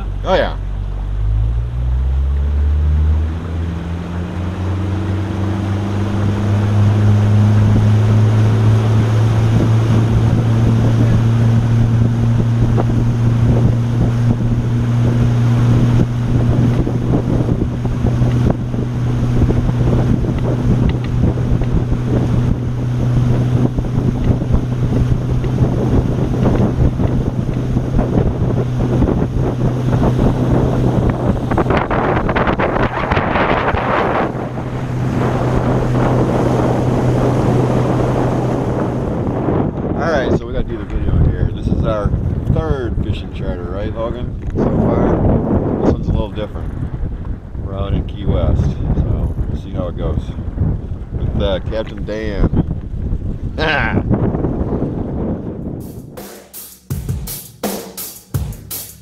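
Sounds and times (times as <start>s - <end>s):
water rushing past hull: 0.0s - 56.2s
wind buffeting microphone: 0.0s - 56.2s
motorboat engine revving: 0.0s - 59.0s.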